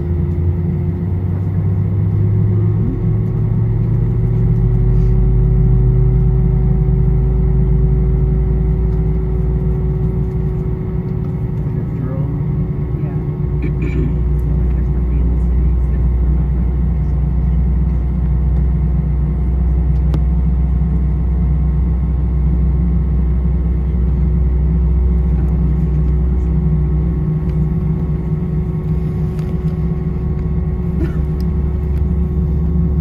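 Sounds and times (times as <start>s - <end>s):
aircraft cabin rumble and hum: 0.0s - 33.0s.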